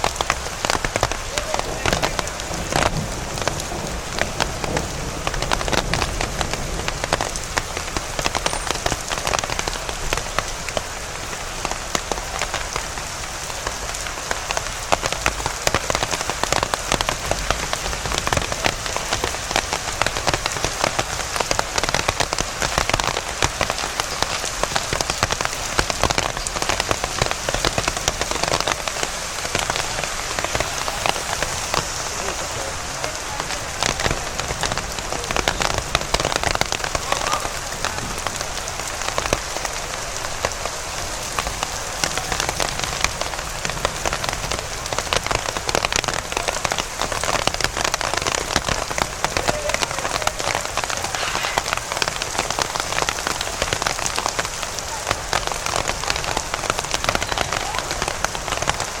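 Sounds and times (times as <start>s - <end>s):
raindrops ticking: 0.0s - 59.0s
steady rain hiss: 0.0s - 59.0s.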